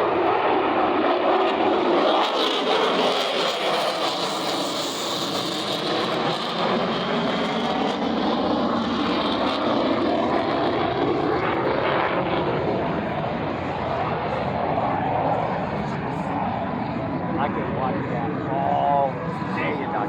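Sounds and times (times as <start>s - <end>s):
fighter jet engine roaring: 0.0s - 20.0s.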